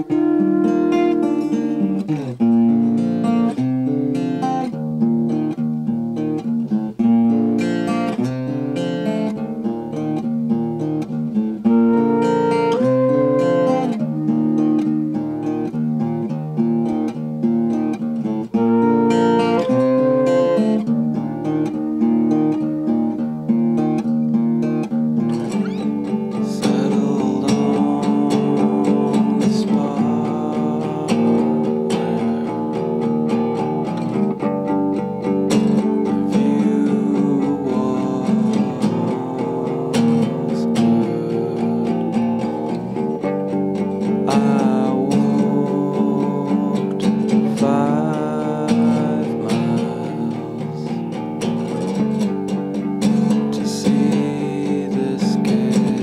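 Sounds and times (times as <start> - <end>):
acoustic guitar picked and strummed: 0.0 - 56.0.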